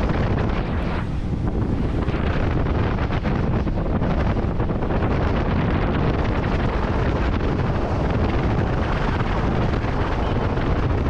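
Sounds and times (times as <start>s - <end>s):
hull on water: 0.0s - 11.0s
speedboat engine drone: 0.0s - 11.0s
wind buffeting microphone: 0.0s - 11.0s.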